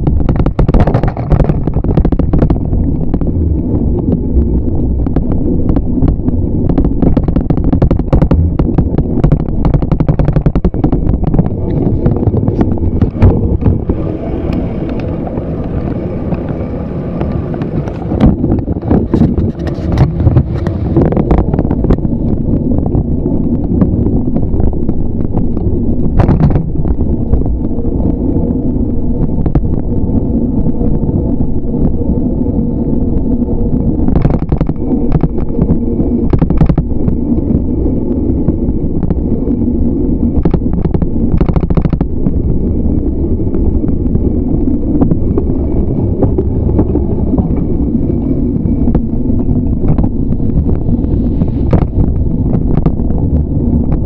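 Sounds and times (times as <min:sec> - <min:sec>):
bicycle knocking and rattling: 0:00.0 - 0:28.1, 0:33.9 - 0:54.0
road noise: 0:00.0 - 0:54.0
wind noise: 0:00.0 - 0:54.0.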